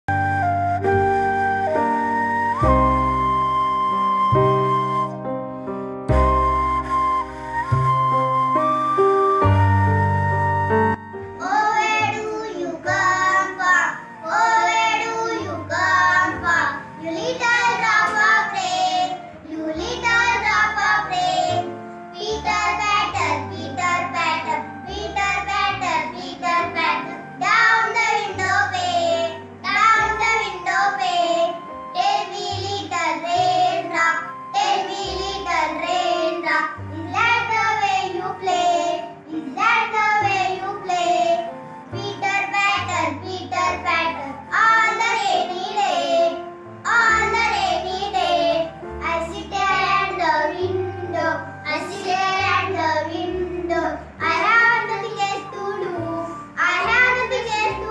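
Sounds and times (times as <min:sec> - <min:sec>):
child singing: 0:11.4 - 0:57.9.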